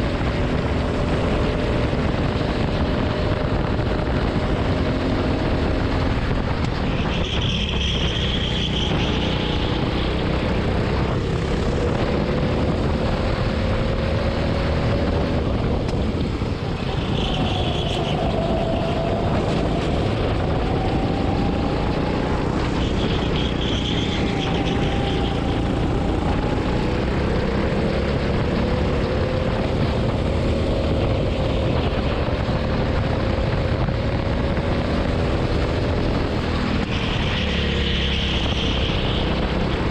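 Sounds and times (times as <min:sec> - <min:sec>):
go-kart engine racing: 0:00.0 - 0:39.9
wind rush on microphone: 0:00.0 - 0:39.9.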